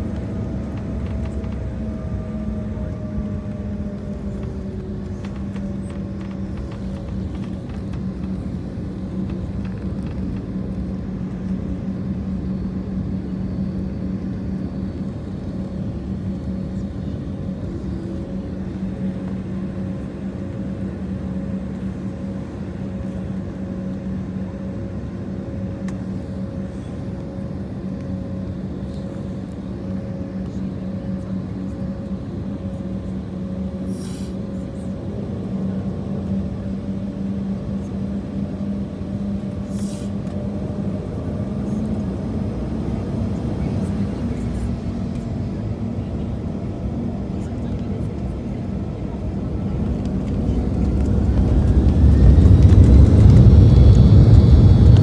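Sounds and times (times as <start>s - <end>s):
jet engines humming in cabin: 0.0s - 55.0s.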